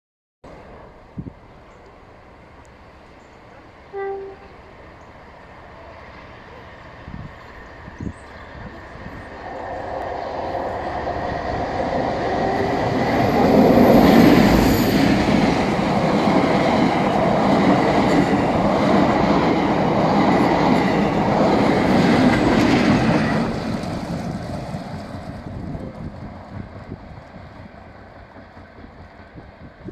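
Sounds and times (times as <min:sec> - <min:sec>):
diesel locomotive passing: 0:00.5 - 0:29.9.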